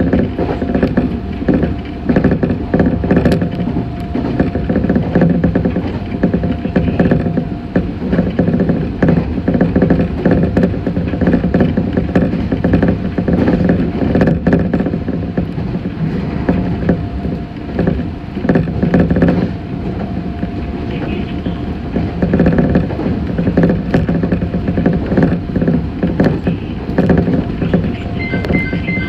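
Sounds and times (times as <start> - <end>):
train running gear rumble: 0.0 - 29.0
wheels clattering over track: 0.0 - 29.0.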